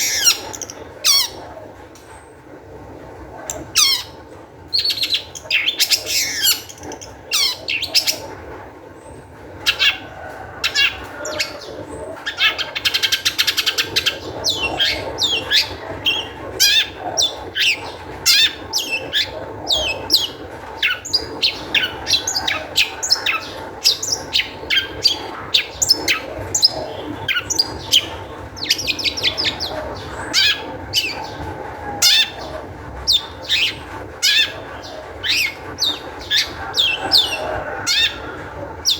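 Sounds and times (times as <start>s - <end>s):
shrike singing harsh chatter: 0.0s - 38.9s.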